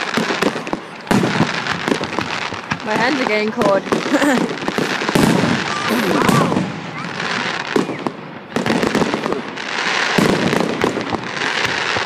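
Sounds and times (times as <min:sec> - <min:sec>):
firework bangs: 0:00.0 - 0:12.0
firework crackling: 0:00.0 - 0:12.0.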